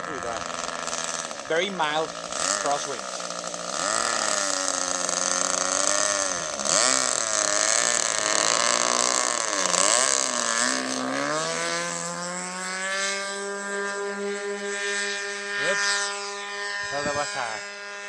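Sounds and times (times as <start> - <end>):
model airplane engine: 0.0 - 18.0.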